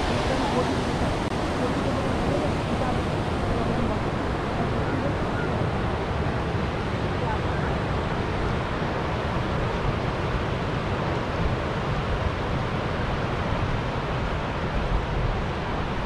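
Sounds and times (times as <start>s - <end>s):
river water rushing over rapids: 0.0s - 16.0s.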